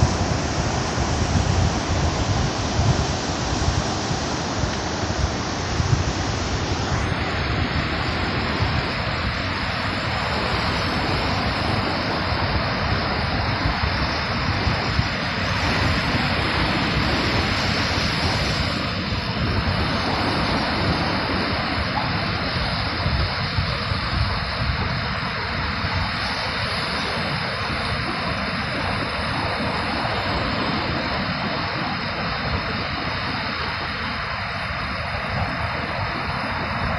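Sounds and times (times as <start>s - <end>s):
ocean surf breaking: 0.0s - 36.9s
wind rumbling on microphone: 0.0s - 36.9s.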